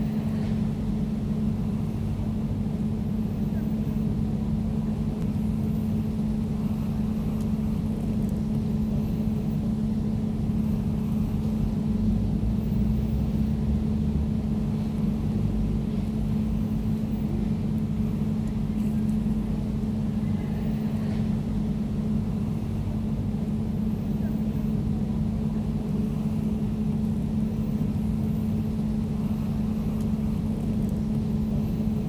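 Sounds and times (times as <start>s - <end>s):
air conditioner humming: 4.2s - 32.0s.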